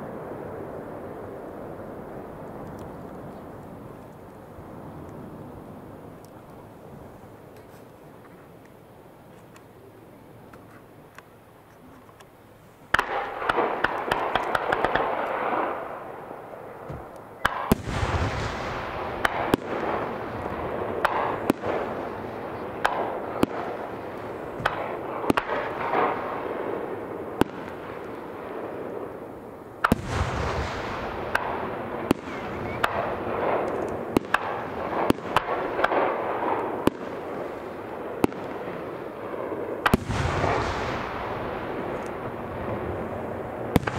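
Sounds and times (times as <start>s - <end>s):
fireworks bangs and crackling: 0.0s - 8.4s, 12.9s - 43.9s.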